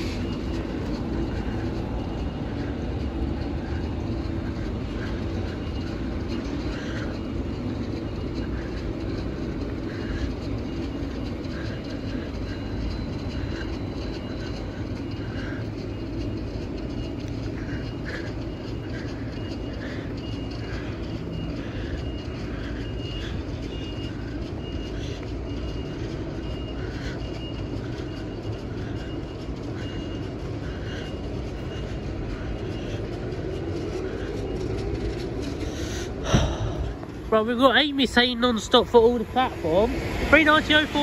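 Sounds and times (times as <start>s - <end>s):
electric train rumbling: 0.0s - 41.0s.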